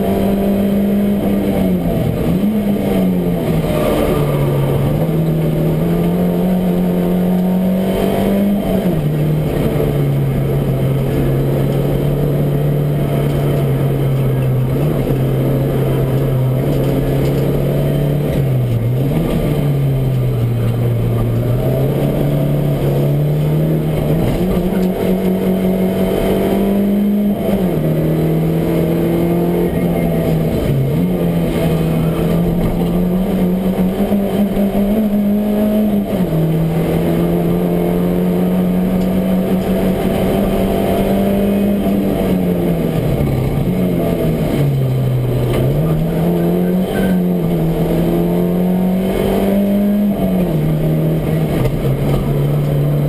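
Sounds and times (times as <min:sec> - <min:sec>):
race car engine under hard load: 0:00.0 - 0:53.0.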